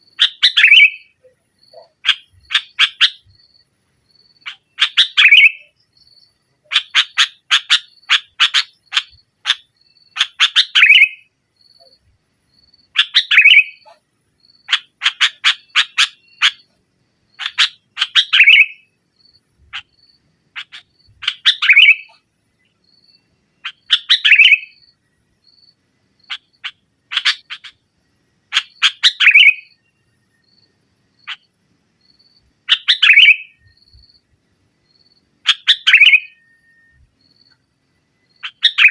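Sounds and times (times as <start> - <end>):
bulbul singing: 0.0 - 27.8, 28.5 - 38.9.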